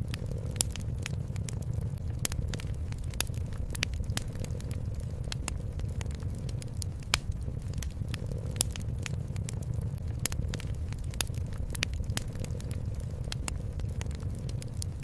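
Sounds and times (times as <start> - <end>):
low rumble: 0.0 - 15.0
sharp fire pops: 0.0 - 15.0
wood fire crackling: 0.0 - 15.0.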